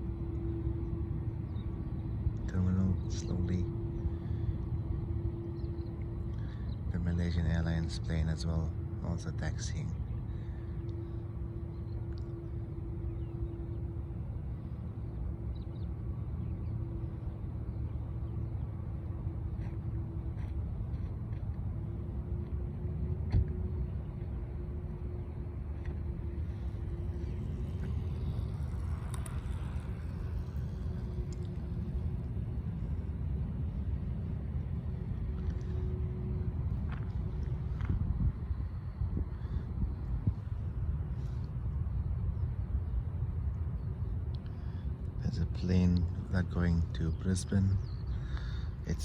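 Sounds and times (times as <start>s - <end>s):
distant jet airliners taxiing: 0.0s - 49.0s.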